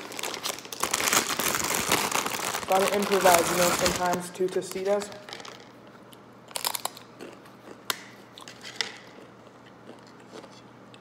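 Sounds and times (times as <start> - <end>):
tortilla chip crunching: 0.0 - 4.1, 5.0 - 10.6.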